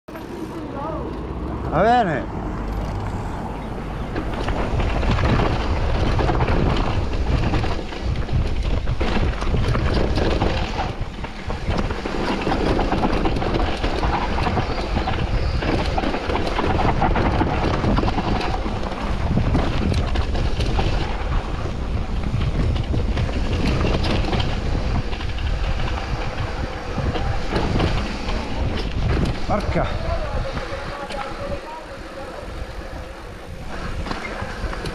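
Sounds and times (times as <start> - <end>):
wind buffeting microphone: 1.2 - 34.9
mountain bike rattling on dirt trail: 4.0 - 34.9.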